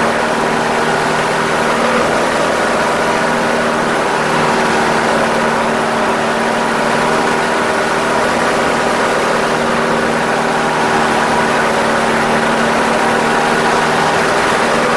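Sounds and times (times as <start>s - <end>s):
aircraft piston engine running: 0.0s - 14.9s
propeller drone: 0.0s - 14.9s.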